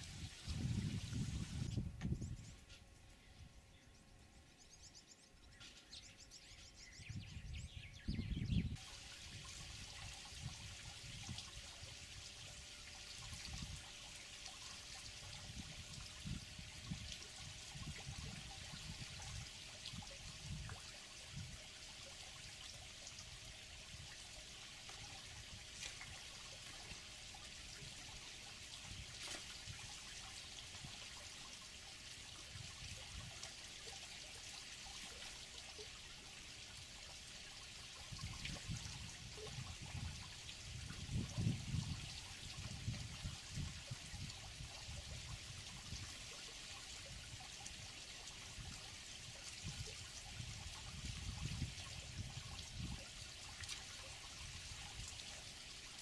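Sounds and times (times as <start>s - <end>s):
water trickling and sloshing: 0.0s - 3.3s, 8.4s - 56.0s.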